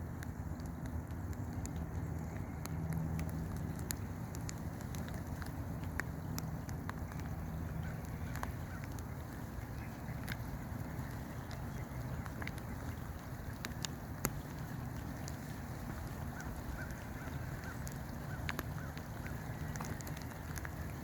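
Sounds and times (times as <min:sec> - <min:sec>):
drops ticking near microphone: 0:00.0 - 0:21.0
low steady rumble: 0:00.0 - 0:21.0
steady rain: 0:00.0 - 0:21.0.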